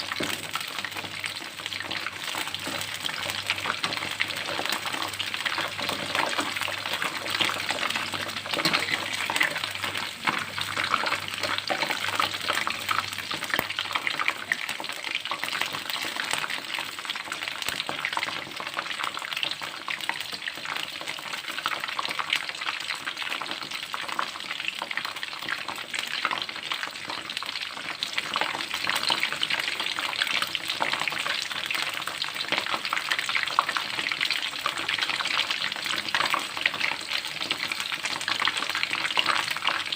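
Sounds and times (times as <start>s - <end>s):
shrimp deep-frying in oil: 0.0s - 39.9s.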